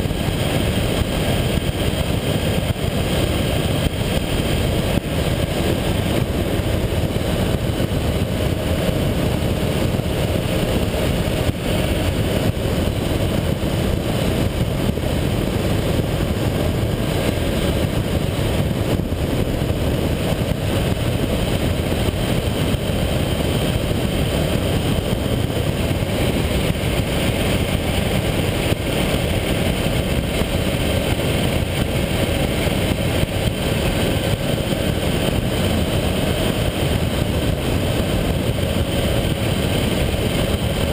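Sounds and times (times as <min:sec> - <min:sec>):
motorcycle engine running: 0:00.0 - 0:40.9
wind rushing on microphone: 0:00.0 - 0:40.9.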